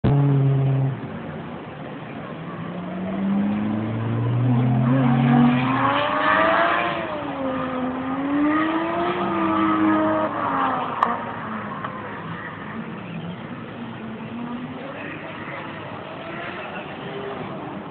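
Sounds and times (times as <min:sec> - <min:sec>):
car engine revving: 0:02.6 - 0:17.9.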